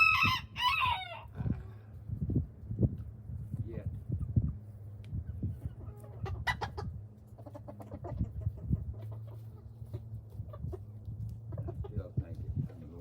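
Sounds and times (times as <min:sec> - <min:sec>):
chickens clucking: 0:01.0 - 0:13.0.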